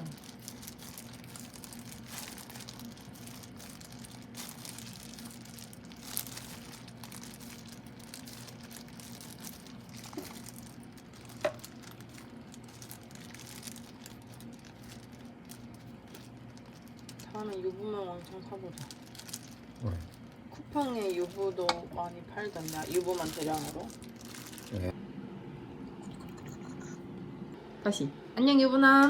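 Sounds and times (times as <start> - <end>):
soft crinkling handling noises: 0.0 - 25.0
steady low hum: 0.0 - 29.0.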